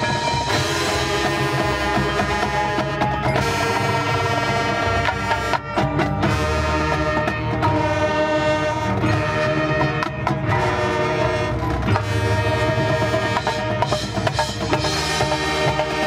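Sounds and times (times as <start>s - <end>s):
drum strikes: 0.0s - 16.0s
mallet keyboards: 0.0s - 16.0s
wind instruments holding chords: 0.0s - 16.0s.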